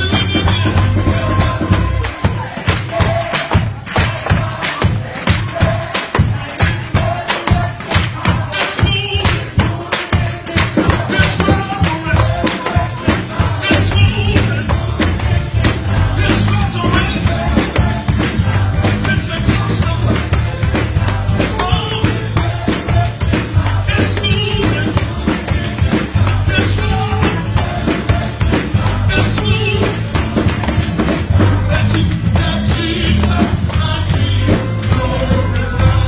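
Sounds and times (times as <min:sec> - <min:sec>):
heavy bass: 0:00.0 - 0:04.5, 0:10.9 - 0:36.0
drums beating: 0:00.0 - 0:36.0
tambourines shaking: 0:00.0 - 0:36.0
voices singing: 0:00.0 - 0:36.0.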